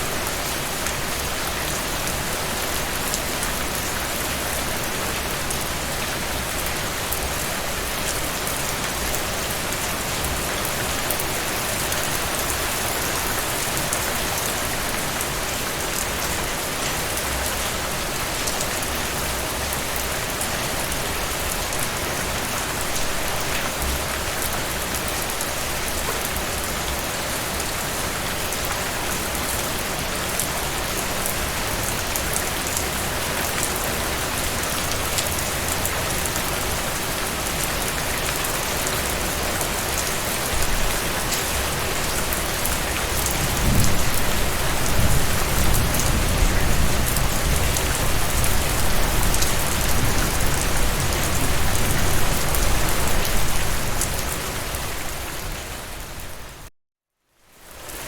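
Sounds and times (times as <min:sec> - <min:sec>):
heavy rain falling: 0:00.0 - 0:56.7.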